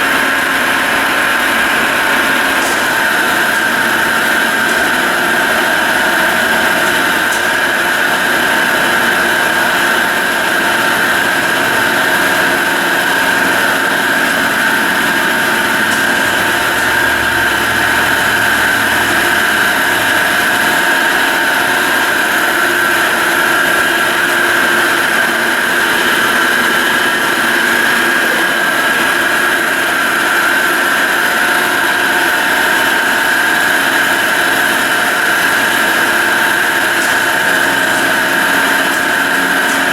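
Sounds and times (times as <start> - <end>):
drill press motor whine: 0.0 - 39.9.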